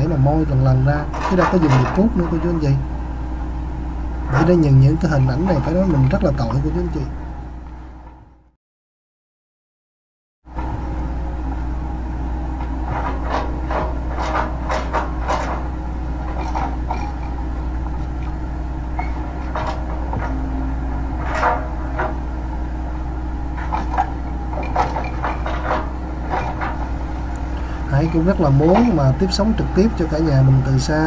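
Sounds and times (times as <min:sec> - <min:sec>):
excavator engine humming: 0:00.0 - 0:08.5, 0:10.5 - 0:31.0.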